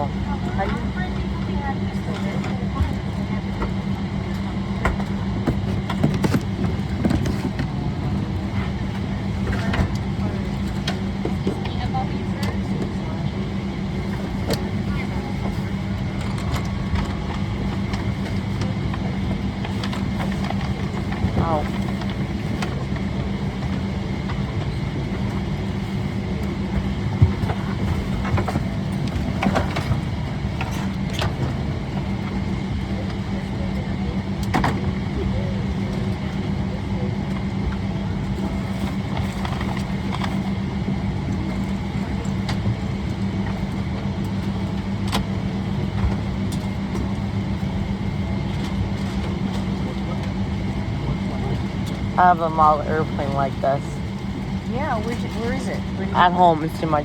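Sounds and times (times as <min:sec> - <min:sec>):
aircraft cabin hum: 0:00.0 - 0:57.0.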